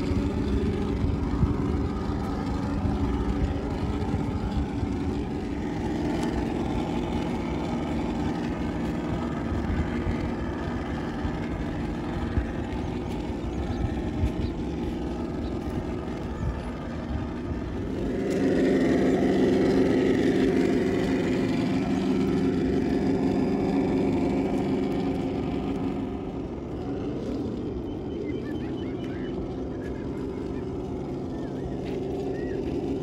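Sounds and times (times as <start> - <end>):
toy truck engine sound rumble: 0.0 - 33.0.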